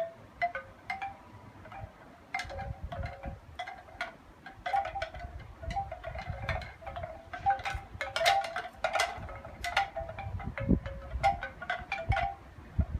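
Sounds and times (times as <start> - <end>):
wind chimes clinking: 0.0 - 12.9.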